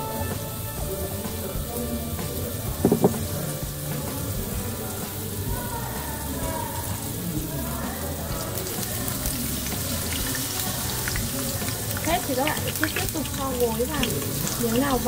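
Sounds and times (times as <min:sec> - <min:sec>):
potato slices sizzling in oil: 0:00.0 - 0:15.0.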